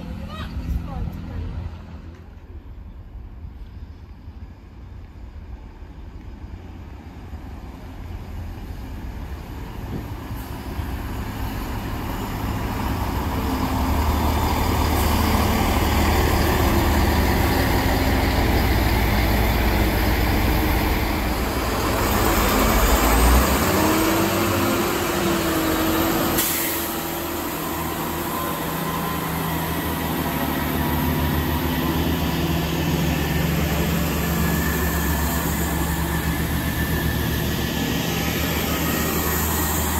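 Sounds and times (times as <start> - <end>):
diesel train engines: 0.0 - 39.9
train wheels on rails: 0.1 - 39.9.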